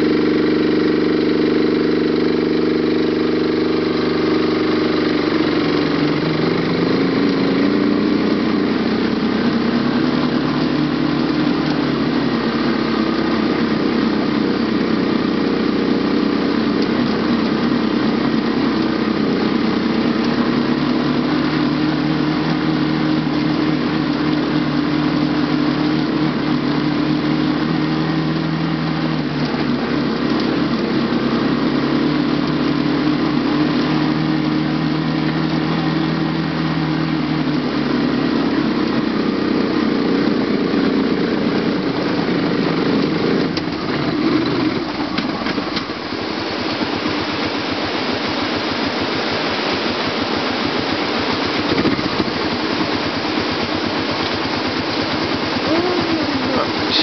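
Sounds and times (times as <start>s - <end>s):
atv engine running under load: 0.0s - 57.0s.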